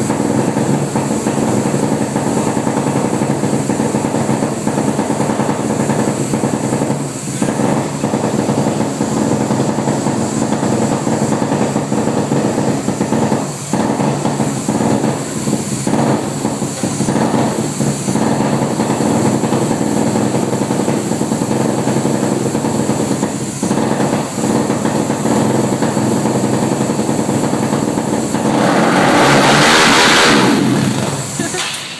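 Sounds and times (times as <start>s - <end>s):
engine running on dyno: 0.0s - 31.9s.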